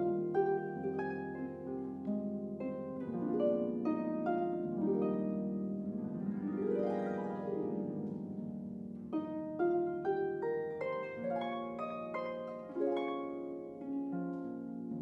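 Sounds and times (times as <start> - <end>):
harp glissando: 0.0 - 15.0
solo harp playing jazz ballad: 0.0 - 15.0.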